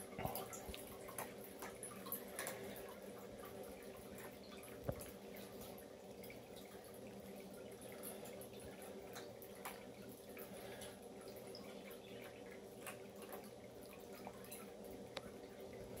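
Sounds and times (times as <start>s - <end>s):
faint low pump hum: 0.0s - 16.0s
small drips or clicks: 0.0s - 16.0s
water trickling and dripping: 0.0s - 16.0s.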